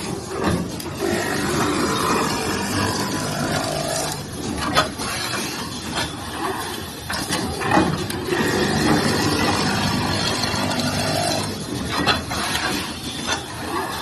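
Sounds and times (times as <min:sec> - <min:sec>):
sewing machine clatter: 0:00.0 - 0:14.0.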